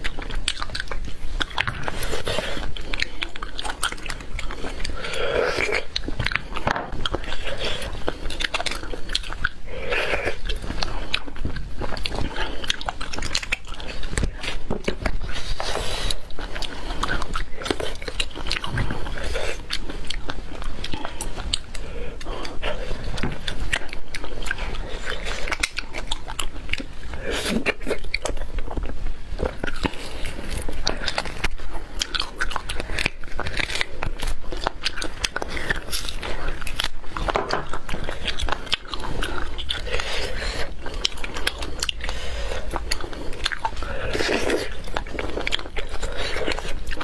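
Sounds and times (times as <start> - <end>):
person crunching food: 0.0 - 47.0
wet mouth sounds: 0.0 - 47.0.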